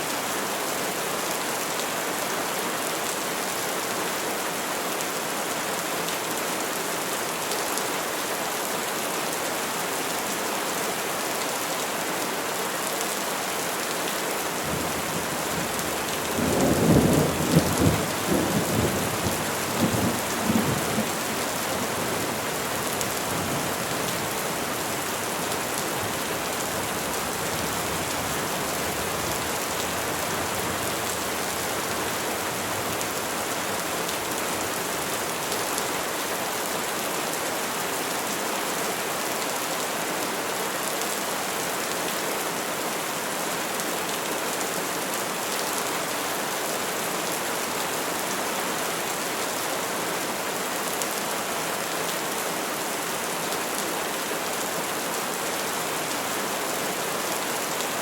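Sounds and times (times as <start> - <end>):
rain falling on trees: 0.0 - 58.0.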